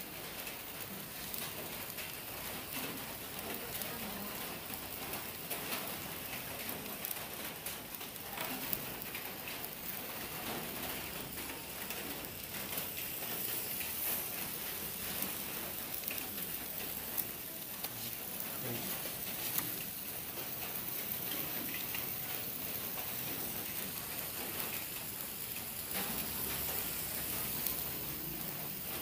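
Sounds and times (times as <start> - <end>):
sparkler fizzing and crackling: 0.0 - 29.0.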